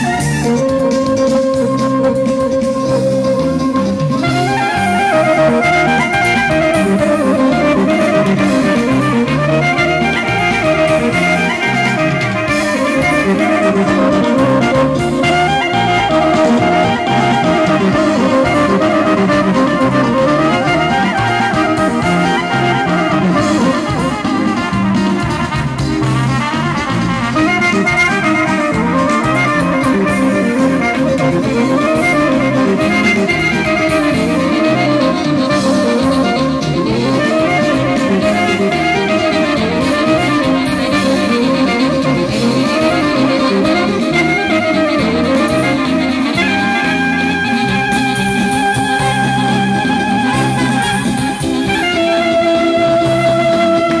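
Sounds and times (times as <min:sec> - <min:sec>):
steady low beat: 0:00.0 - 0:52.5
violin playing fast melody: 0:00.0 - 0:54.0
wind instrument melody: 0:00.0 - 0:54.0.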